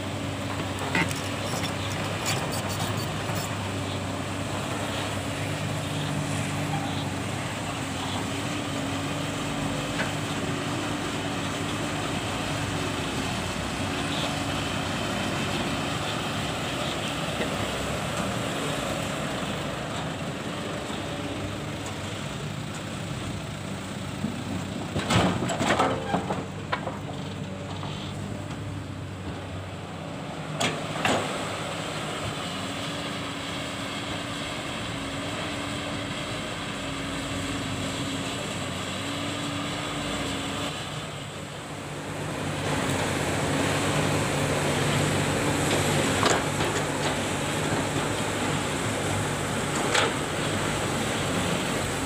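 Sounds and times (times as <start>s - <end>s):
diesel truck engines running: 0.0s - 52.0s
truck rolling past: 0.0s - 52.0s.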